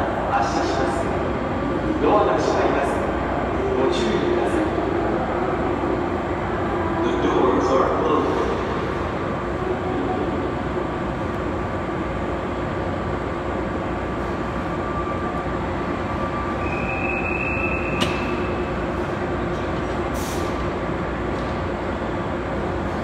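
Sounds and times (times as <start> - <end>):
train equipment humming: 0.0 - 23.0.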